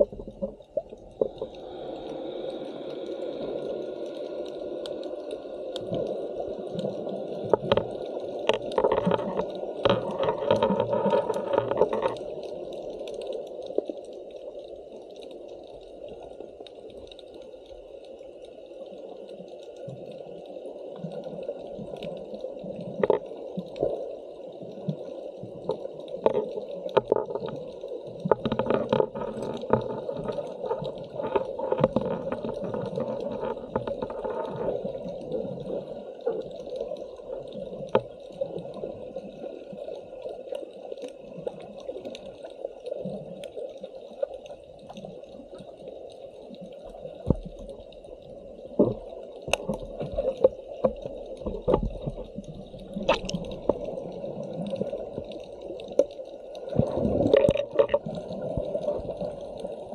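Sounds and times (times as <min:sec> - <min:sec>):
underwater rush of water: 0:00.0 - 0:59.9.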